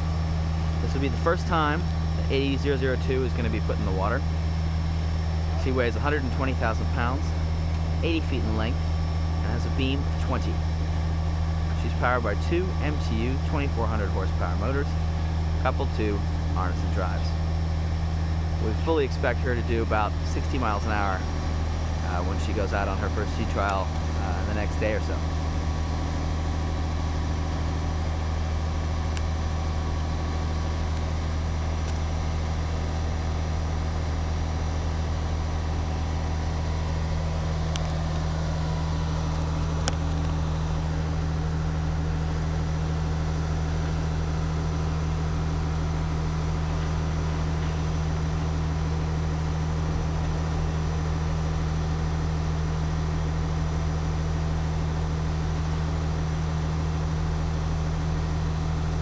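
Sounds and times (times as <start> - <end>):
crane diesel engine humming: 0.0 - 59.0.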